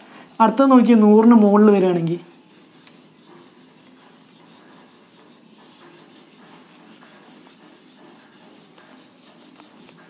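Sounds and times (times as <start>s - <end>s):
eraser rubbing a whiteboard: 0.0s - 10.0s.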